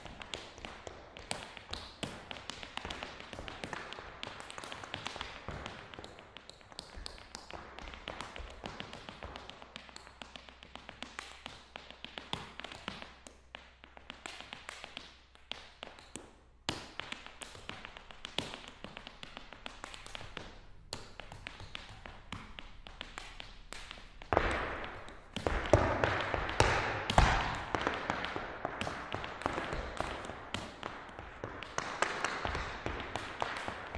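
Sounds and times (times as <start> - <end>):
hard shoes tapping on floor: 0.0 - 15.0, 15.8 - 33.9.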